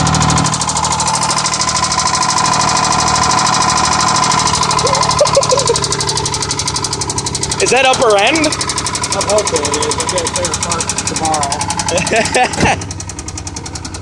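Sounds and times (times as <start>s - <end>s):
car engine idling: 0.0s - 14.0s
rapid engine knocking: 0.0s - 14.0s.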